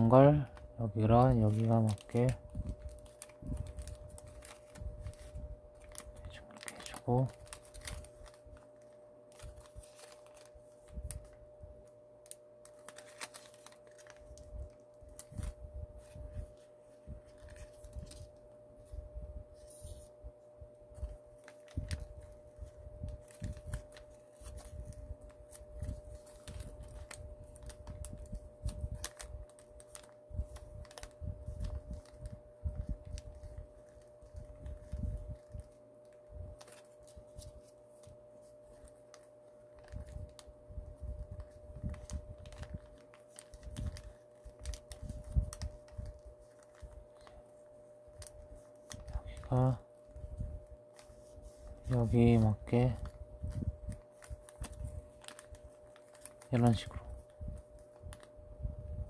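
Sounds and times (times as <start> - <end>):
faint steady hum: 0.0 - 59.0
paper crinkling and rustling: 0.0 - 59.0.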